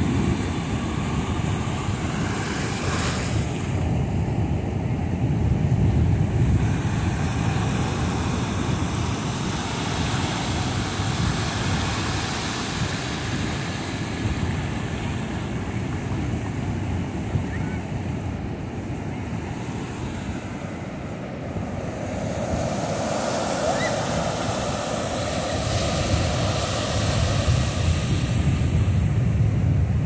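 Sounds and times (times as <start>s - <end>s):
ocean surf breaking on shore: 0.0s - 30.0s
wind rumbling on microphone: 0.0s - 30.0s.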